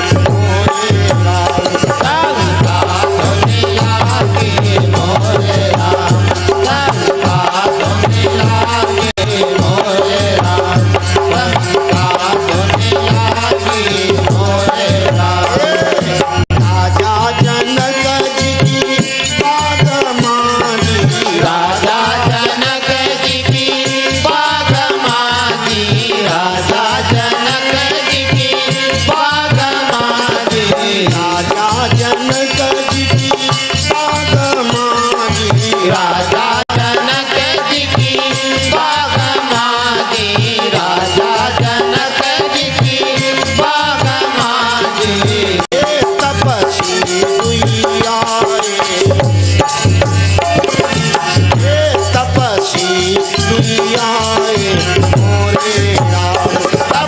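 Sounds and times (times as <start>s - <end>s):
fast hand drum percussion: 0.0s - 57.0s.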